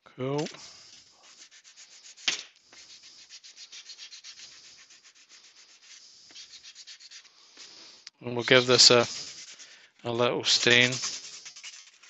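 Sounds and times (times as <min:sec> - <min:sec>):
sanding block scraping wood: 0:00.6 - 0:12.0.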